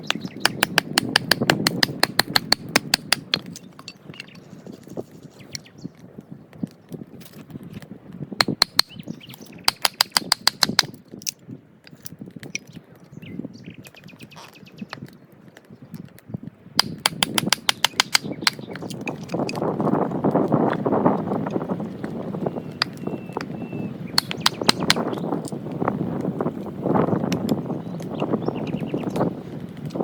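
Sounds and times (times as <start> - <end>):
dry wood snapping and crackling: 0.0 - 13.2, 13.8 - 23.6, 24.2 - 28.4, 29.1 - 30.0.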